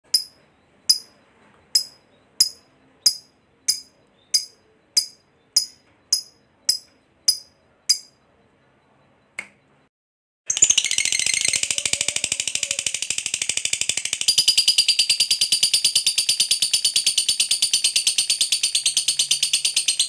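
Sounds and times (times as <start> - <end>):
bird chirping high: 0.1 - 9.2, 10.5 - 20.0.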